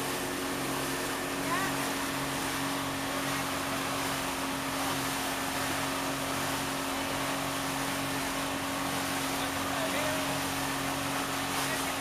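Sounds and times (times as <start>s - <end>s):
motorboat engine humming: 0.0s - 12.0s
water and wind hiss: 0.0s - 12.0s.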